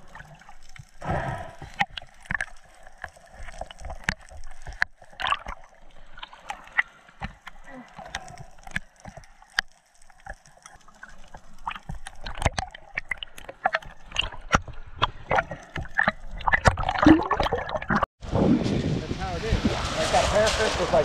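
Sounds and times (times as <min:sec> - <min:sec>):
bubbling gurgles: 0:00.0 - 0:06.9, 0:07.6 - 0:18.5
underwater clicks and crackles: 0:00.0 - 0:18.1.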